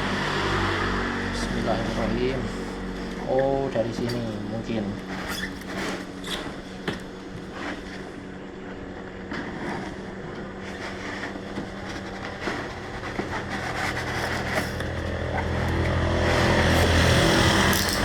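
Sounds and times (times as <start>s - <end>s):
steady low hum: 0.0s - 18.0s
cardboard scraping and rustling: 1.5s - 18.0s.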